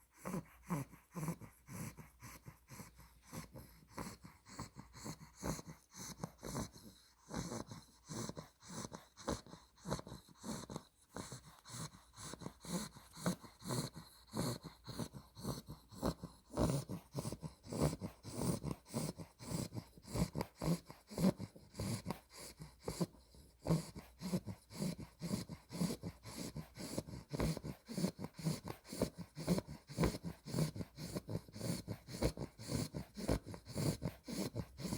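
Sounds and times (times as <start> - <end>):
puppy snoring: 0.0 - 34.9.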